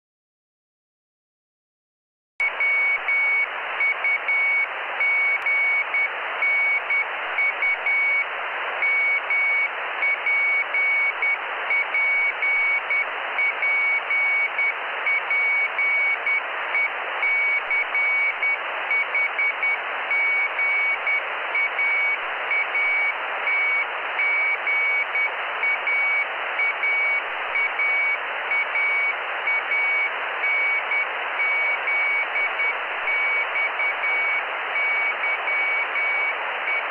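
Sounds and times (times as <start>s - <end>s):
morse code beacon tone: 2.4s - 36.9s
radio receiver hiss: 2.4s - 36.9s.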